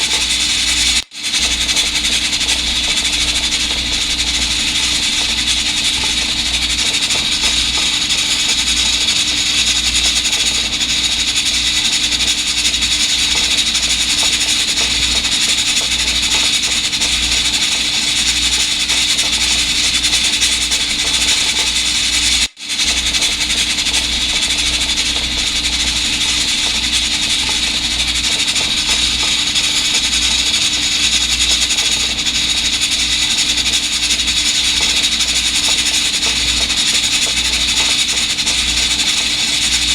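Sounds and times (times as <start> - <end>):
rice cooker hissing steam: 0.0 - 39.9.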